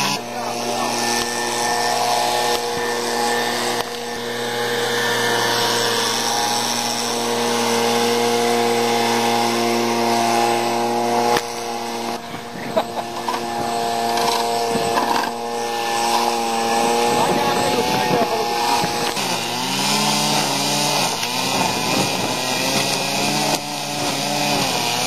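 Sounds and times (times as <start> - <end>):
hand tool scraping road surface: 0.0 - 25.0
leaf blower engine running: 0.0 - 25.0.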